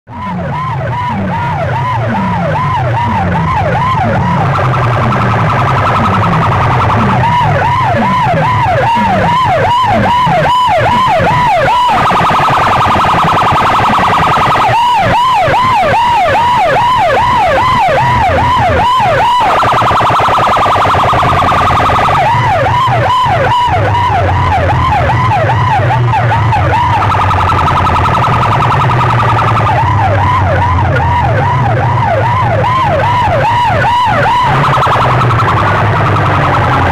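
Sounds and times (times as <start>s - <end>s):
electronic siren through loudspeakers: 0.1s - 36.9s.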